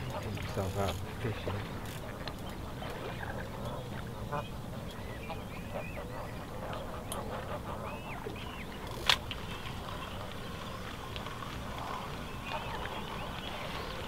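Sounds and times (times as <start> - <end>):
waterfowl calling: 0.0 - 14.0
thin bird calls: 1.9 - 14.0.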